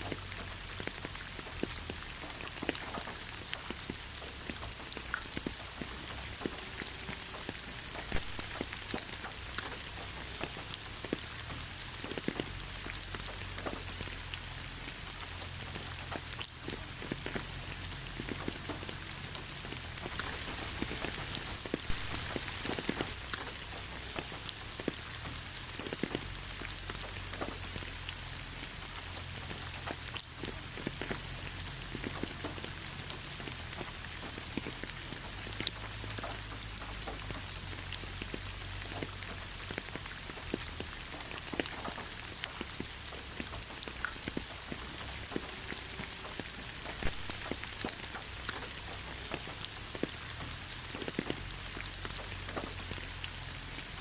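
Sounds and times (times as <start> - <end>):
rain drops pattering: 0.0 - 54.0.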